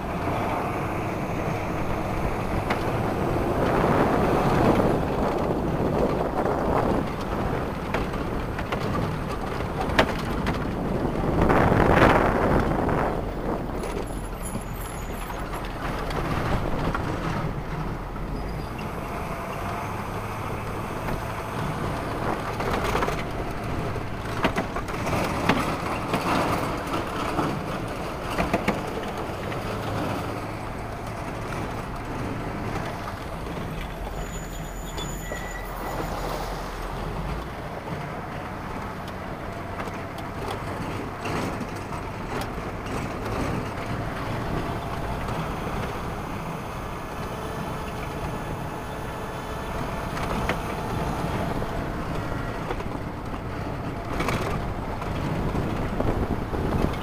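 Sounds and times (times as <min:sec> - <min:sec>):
engine drone: 0:00.0 - 0:57.0
wind rumble: 0:00.0 - 0:57.0.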